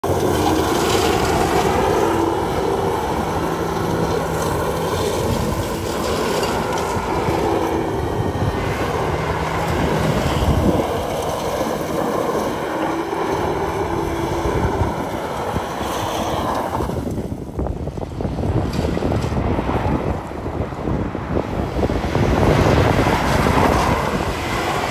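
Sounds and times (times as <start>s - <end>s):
wind noise on microphone: 0.0s - 24.9s.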